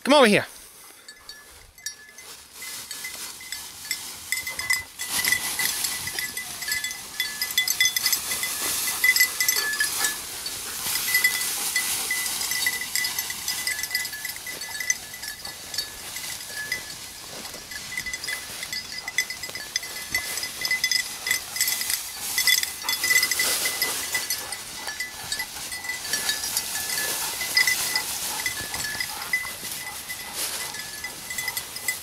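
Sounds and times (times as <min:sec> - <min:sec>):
dog collar bell jingling: 0:00.1 - 0:32.0
rustle of dry grass and brush: 0:00.5 - 0:32.0.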